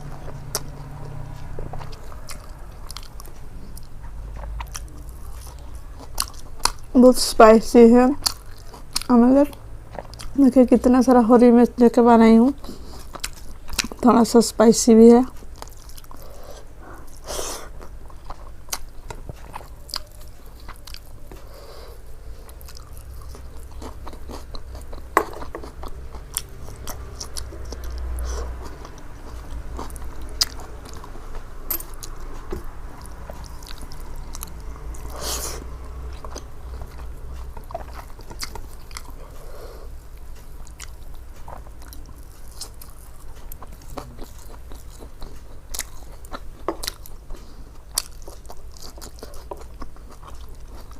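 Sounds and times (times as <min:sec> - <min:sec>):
person chewing food: 0:00.0 - 0:07.0, 0:08.2 - 0:10.4, 0:12.6 - 0:14.1, 0:15.3 - 0:50.9.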